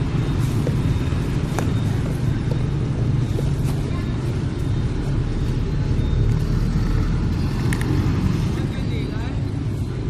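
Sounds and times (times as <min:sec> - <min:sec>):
motorbikes and cars passing: 0:00.0 - 0:10.0.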